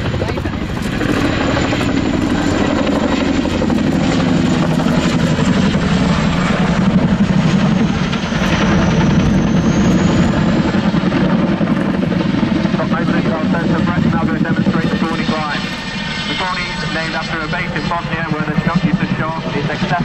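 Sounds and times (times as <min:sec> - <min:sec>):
helicopter engine whine: 0:00.0 - 0:20.0
helicopter rotors beating: 0:00.0 - 0:20.0.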